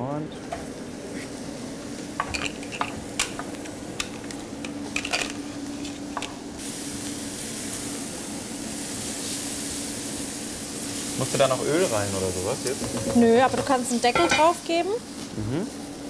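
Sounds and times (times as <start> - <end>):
onions sizzling in a pan: 0.5 - 16.0.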